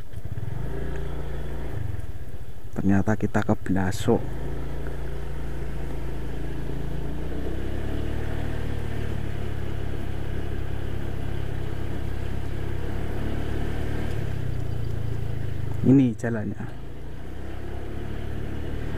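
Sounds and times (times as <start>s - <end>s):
motorcycle engine running: 0.0s - 2.7s, 3.5s - 18.9s.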